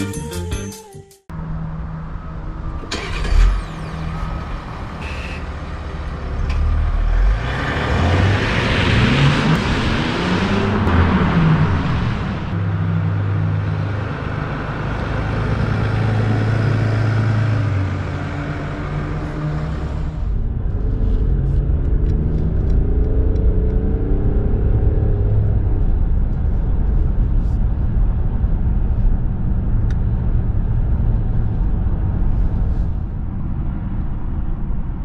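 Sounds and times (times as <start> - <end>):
diesel car engine driving: 1.3 - 35.0.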